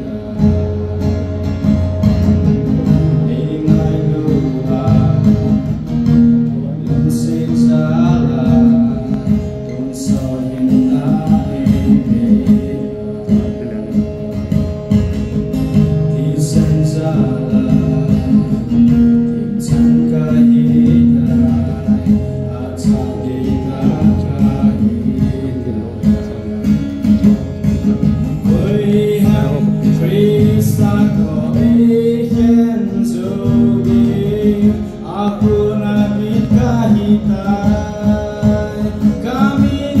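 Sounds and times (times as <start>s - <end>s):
person singing a hymn: 0.0s - 1.6s, 2.5s - 14.4s, 16.0s - 27.3s, 28.3s - 40.0s
strummed acoustic guitar: 0.0s - 40.0s.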